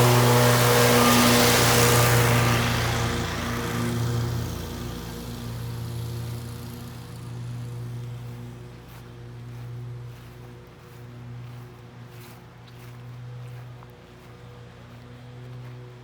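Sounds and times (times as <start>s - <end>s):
road and wind noise: 0.0s - 16.0s
vehicle engine humming: 0.0s - 16.0s.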